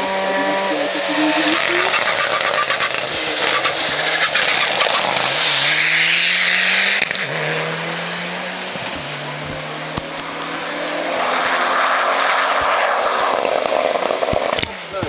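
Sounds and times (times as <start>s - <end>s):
exhaust crackling and popping: 0.0s - 15.0s
race car engine at full throttle: 0.0s - 15.0s.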